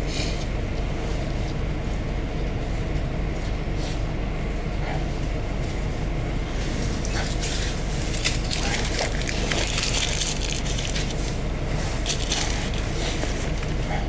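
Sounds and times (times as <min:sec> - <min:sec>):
minibus engine droning: 0:00.0 - 0:14.0.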